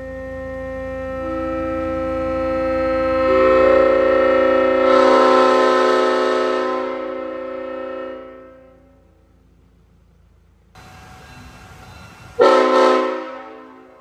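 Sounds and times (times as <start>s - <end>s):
locomotive air horn chord: 0.0s - 9.4s, 10.8s - 14.0s.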